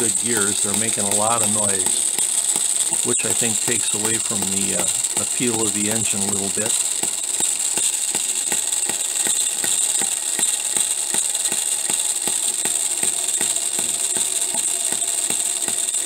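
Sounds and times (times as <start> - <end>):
high-pitched engine noise: 0.0 - 16.0
noisy gears: 0.0 - 16.0
small engine clicks: 0.0 - 16.0.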